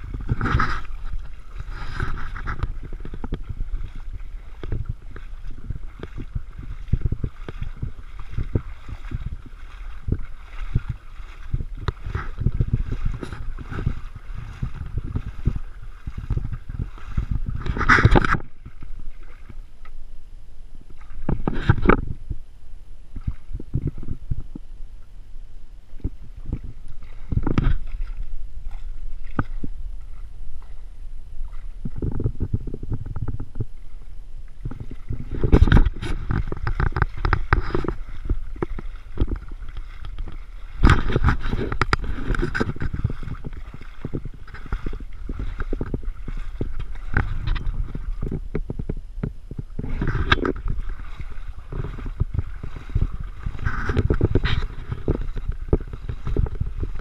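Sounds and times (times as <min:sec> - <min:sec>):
gusty wind buffeting microphone: 0:00.0 - 0:19.7, 0:20.8 - 0:24.9, 0:25.8 - 0:57.0
water lapping against a boat hull: 0:00.0 - 0:57.0.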